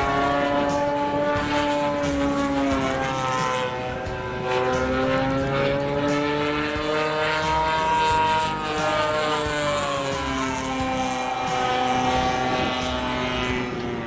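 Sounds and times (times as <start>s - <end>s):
model plane engine running: 0.0s - 14.0s.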